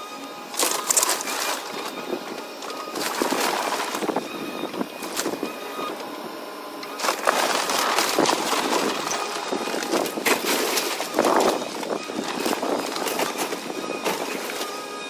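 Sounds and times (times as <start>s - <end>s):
debris clattering: 0.5s - 5.5s, 6.9s - 14.8s
timber splintering: 0.5s - 6.1s, 6.8s - 15.0s.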